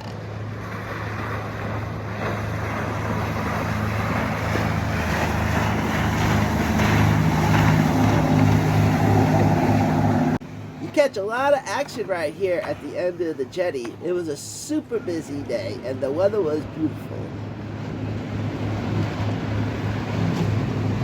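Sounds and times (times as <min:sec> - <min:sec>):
motorboat engine humming: 0:00.0 - 0:21.0
water wash: 0:00.0 - 0:21.0.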